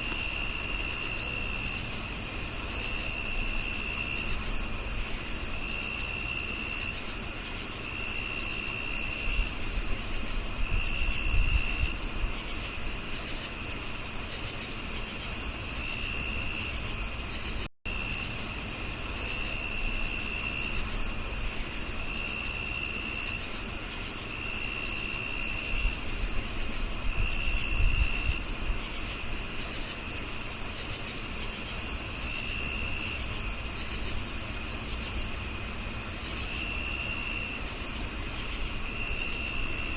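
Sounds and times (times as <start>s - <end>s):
crickets chirping: 0.0s - 39.9s
low cricket trill: 0.0s - 39.9s.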